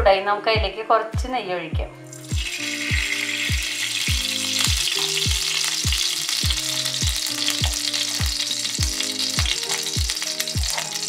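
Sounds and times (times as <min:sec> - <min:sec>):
background music with low beat: 0:00.0 - 0:11.0
ghee sizzling in a pan: 0:02.0 - 0:11.0.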